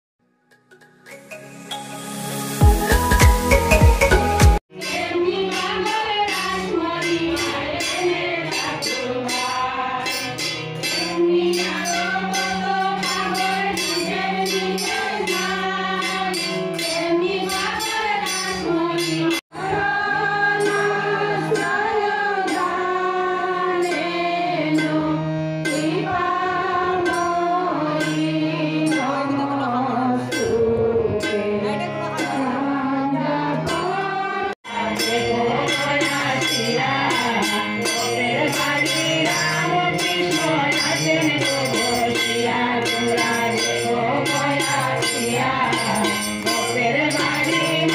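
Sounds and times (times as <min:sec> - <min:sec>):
harmonium drone: 0:01.5 - 0:47.9
women singing devotional song: 0:04.7 - 0:47.9.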